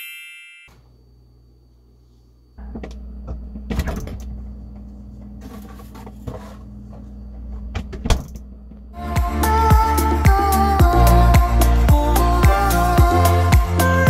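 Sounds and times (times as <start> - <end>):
appliance electrical hum: 0.1 - 14.0.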